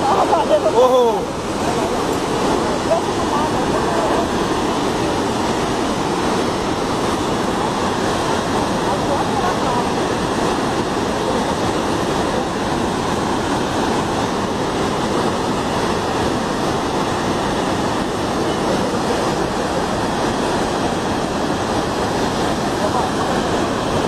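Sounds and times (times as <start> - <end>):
rushing floodwater: 0.0 - 24.0.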